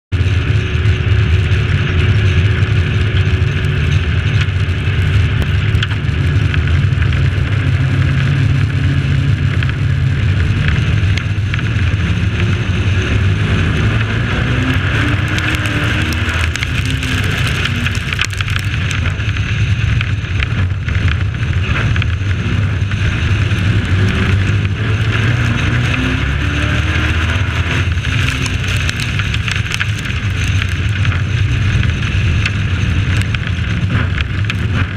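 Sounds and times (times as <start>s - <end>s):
truck engine running hard: 0.1s - 34.9s
tyres on dirt track: 0.1s - 34.9s
wind noise: 0.2s - 34.9s.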